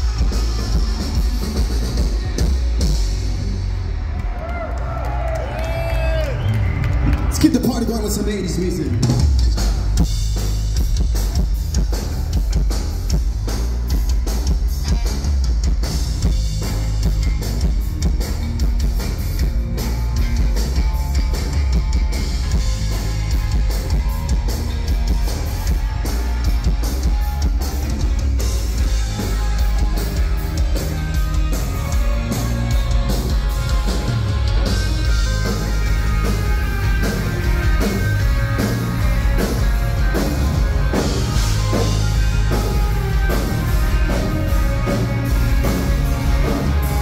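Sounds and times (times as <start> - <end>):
bass guitar: 0.0 - 47.0
drum kit: 0.0 - 47.0
electric guitar: 0.0 - 47.0.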